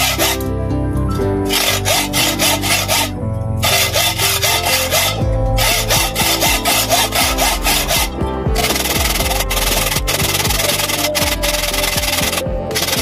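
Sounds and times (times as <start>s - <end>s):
hacksaw cutting steel: 0.0s - 0.4s, 1.5s - 13.0s
background music: 0.0s - 13.0s.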